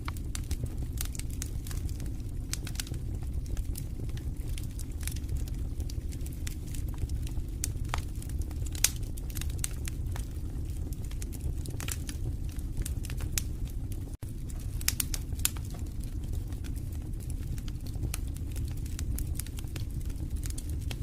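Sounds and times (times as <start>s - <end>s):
crackles and pops from logs: 0.0s - 21.0s
wood fire burning: 0.0s - 21.0s.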